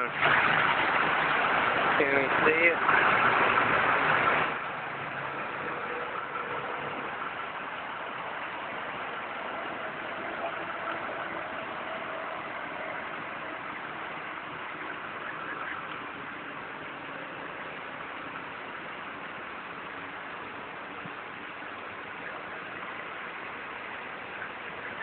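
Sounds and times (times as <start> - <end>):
outdoor street noise: 0.0 - 25.0.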